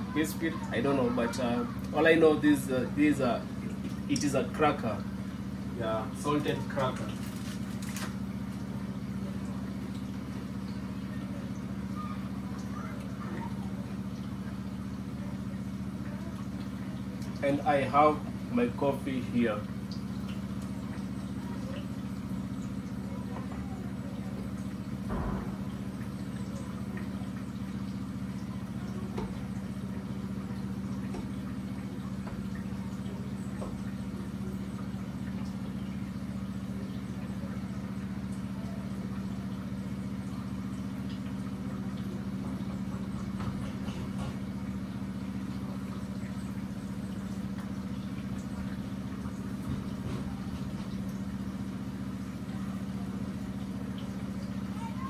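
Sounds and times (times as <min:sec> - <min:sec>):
food deep-frying in oil: 0:00.0 - 0:55.0
steady low hum: 0:00.0 - 0:55.0.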